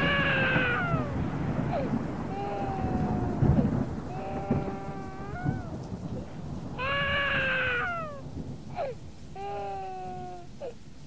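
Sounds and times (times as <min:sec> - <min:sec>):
long wailing cries: 0:00.0 - 0:06.2, 0:06.8 - 0:10.8
continuous low rumble: 0:00.0 - 0:11.0.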